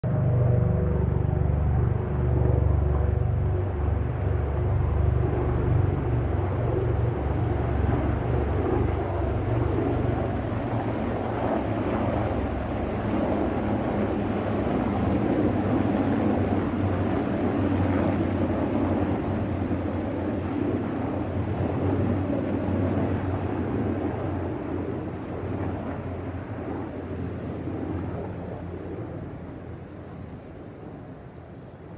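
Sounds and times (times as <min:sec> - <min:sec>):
helicopter rotor drone: 0:00.0 - 0:31.9.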